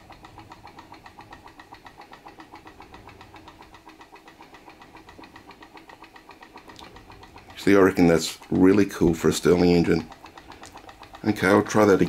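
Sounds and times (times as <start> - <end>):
engine ticking clatter: 0.0 - 12.0.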